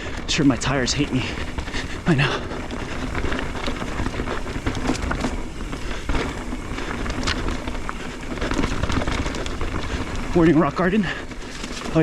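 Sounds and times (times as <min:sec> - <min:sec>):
bike knocking and rattling: 0:00.0 - 0:12.0
bike tyres rumbling on dirt trail: 0:00.0 - 0:12.0.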